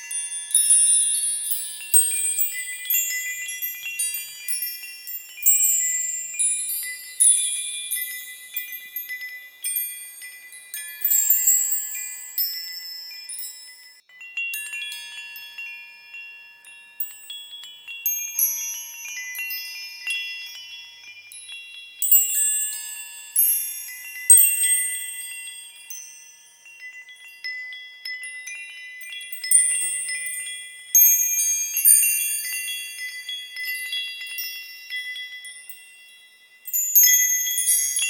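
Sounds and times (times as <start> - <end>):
high-pitched bells chiming: 0.0 - 38.0.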